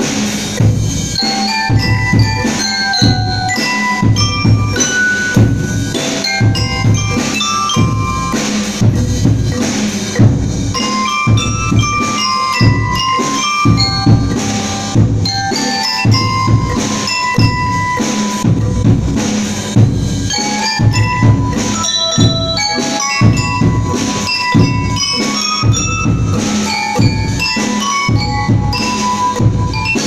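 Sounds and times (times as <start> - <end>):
steady drum beat: 0.0 - 30.0
marimba ensemble playing: 0.1 - 30.0.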